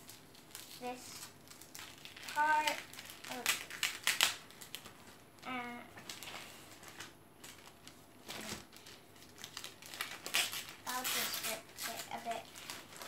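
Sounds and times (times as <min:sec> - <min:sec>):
wrapping paper rustling: 0:00.0 - 0:13.0.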